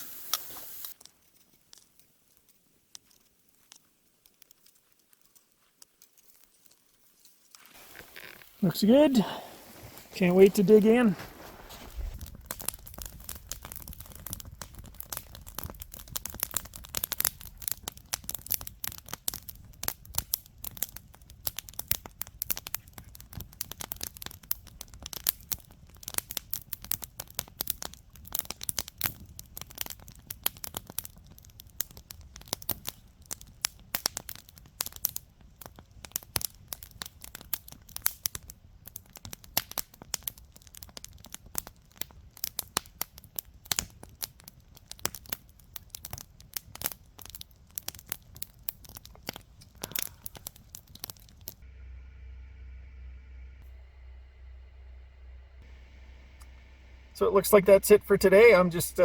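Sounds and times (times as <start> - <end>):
campfire crackling and popping: 0.0 - 51.7, 55.6 - 59.0.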